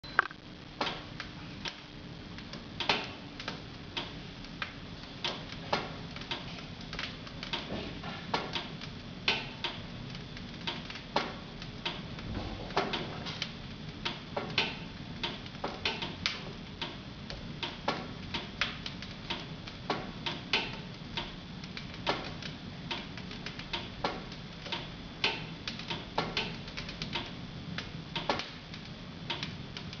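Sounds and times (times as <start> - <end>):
wood fire crackling and popping: 0.1 - 30.0.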